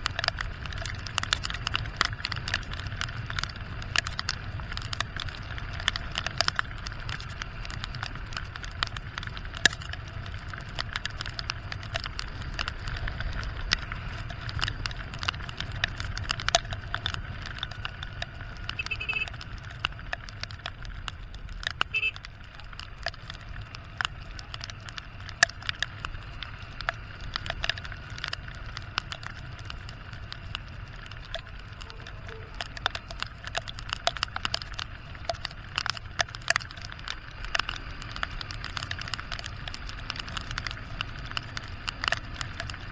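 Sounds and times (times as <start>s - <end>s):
motorcycle engine rumble: 0.0s - 42.9s
raindrops ticking on camera: 0.0s - 42.9s.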